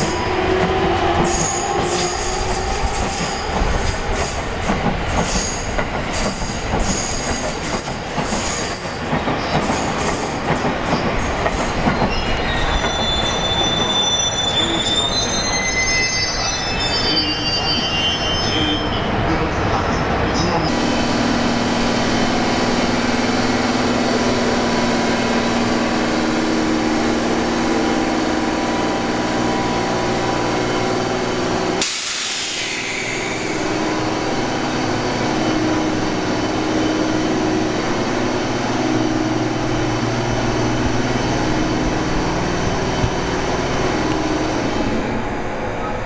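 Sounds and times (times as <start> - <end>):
train machinery hum: 0.0 - 46.0.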